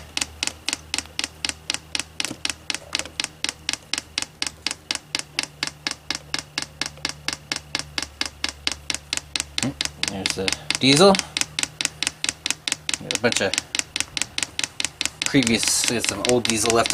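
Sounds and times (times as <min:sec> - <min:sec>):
fuel pump clicking: 0:00.0 - 0:16.9.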